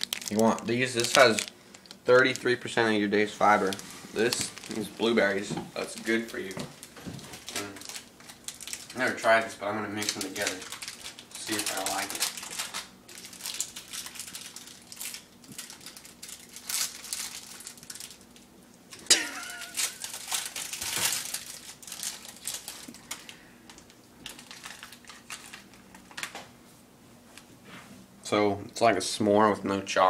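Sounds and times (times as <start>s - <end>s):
plastic packaging crinkling: 0.0s - 26.5s.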